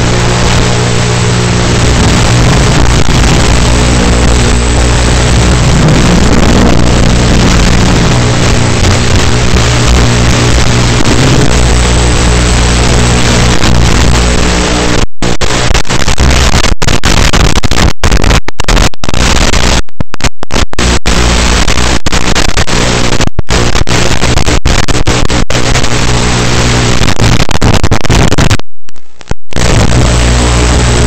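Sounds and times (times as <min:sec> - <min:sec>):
static hiss and buzz: 0:00.0 - 0:31.0.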